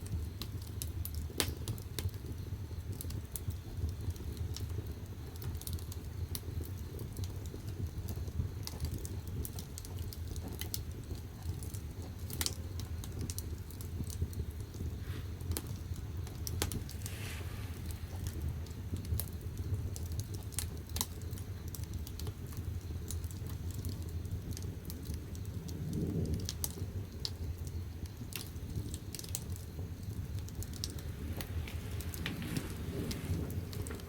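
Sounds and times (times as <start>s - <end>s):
low rumble of fire: 0.0s - 34.0s
wood crackling and popping: 0.0s - 34.0s.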